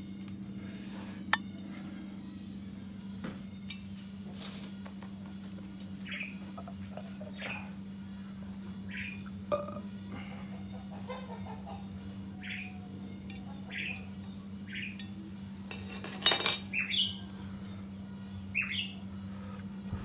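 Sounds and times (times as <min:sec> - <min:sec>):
steady low hum: 0:00.0 - 0:11.1, 0:11.8 - 0:20.0.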